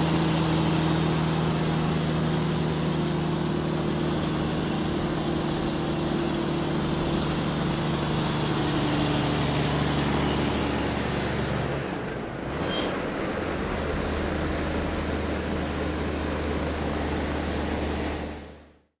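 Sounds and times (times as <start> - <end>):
diesel truck engine pulling away: 0.0 - 18.8.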